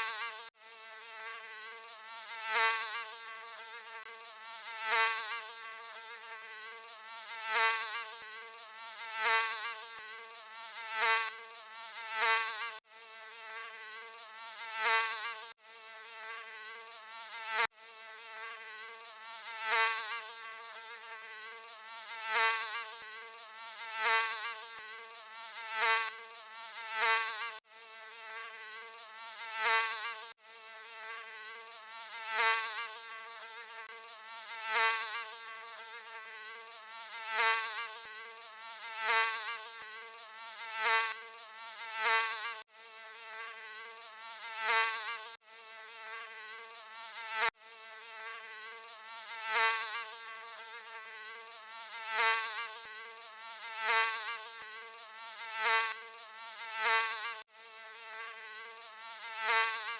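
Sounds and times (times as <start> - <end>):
mosquito buzzing whine: 0.0 - 59.9.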